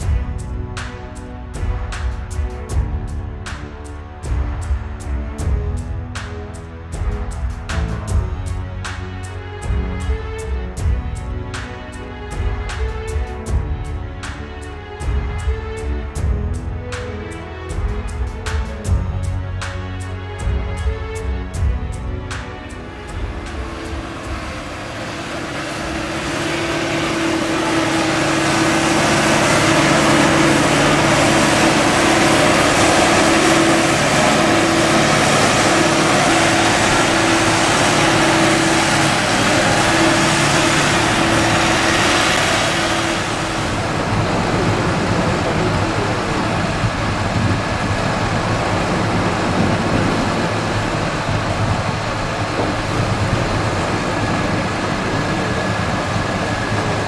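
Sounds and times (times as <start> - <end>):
diesel engine whining under load: 0.0 - 57.0
tractor engine running: 0.0 - 57.0.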